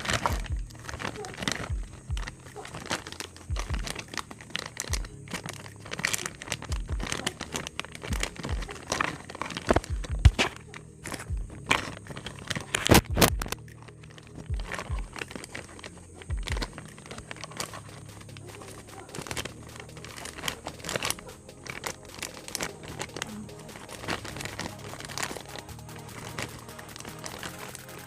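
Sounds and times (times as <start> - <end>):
background music: 0.0 - 28.0
plastic packaging crinkling: 0.0 - 28.0.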